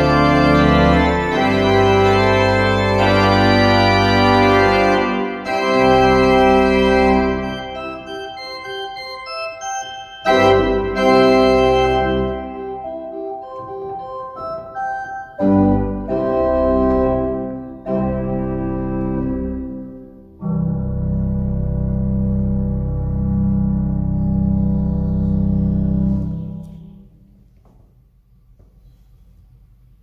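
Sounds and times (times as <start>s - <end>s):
pipe organ chords: 0.0s - 27.4s.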